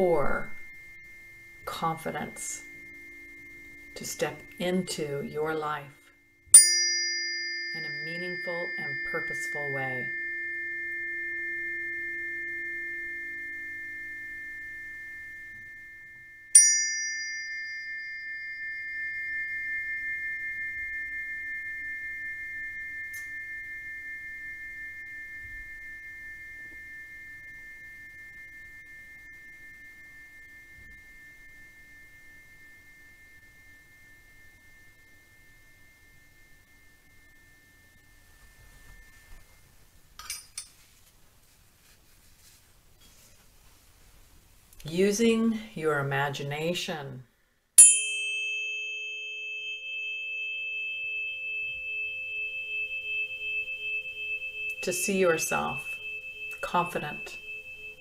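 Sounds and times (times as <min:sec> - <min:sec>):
metal chime ringing: 0:00.0 - 0:40.7, 0:47.8 - 0:58.0.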